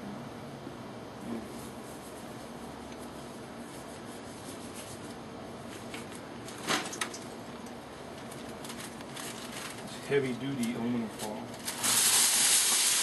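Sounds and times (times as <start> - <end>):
low background noise: 0.0 - 11.8.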